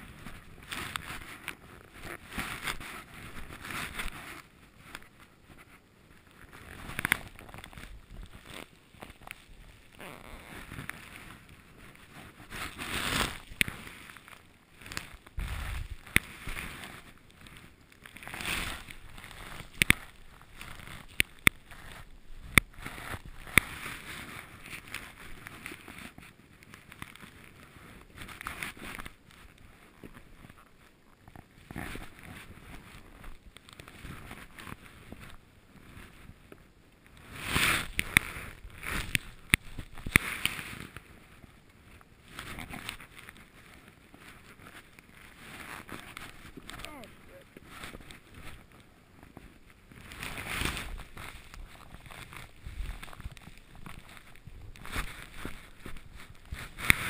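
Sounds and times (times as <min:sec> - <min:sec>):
skis swishing through snow: 0:00.0 - 0:30.8, 0:37.1 - 0:57.0.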